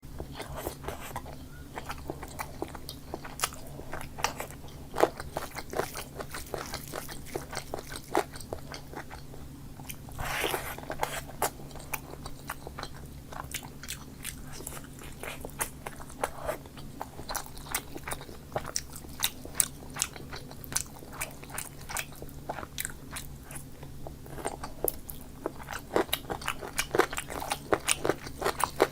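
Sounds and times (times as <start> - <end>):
steady low hum: 0.0 - 28.9
person chewing and crunching food: 0.1 - 28.9.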